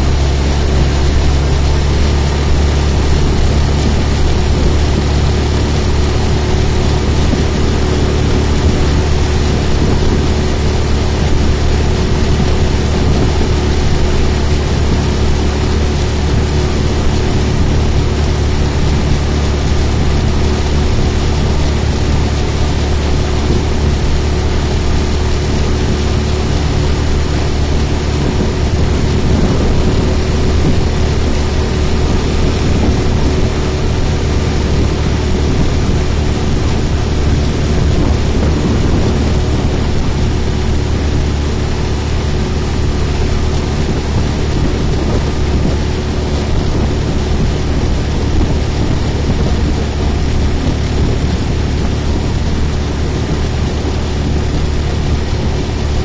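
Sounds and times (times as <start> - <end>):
outboard motor running: 0.0 - 56.0
wind and water rushing: 0.0 - 56.0.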